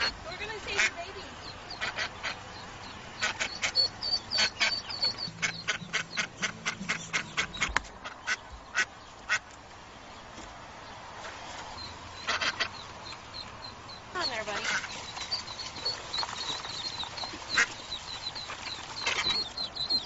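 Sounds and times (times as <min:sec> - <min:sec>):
duck quacking: 0:00.0 - 0:09.5, 0:12.2 - 0:12.9, 0:13.9 - 0:20.0.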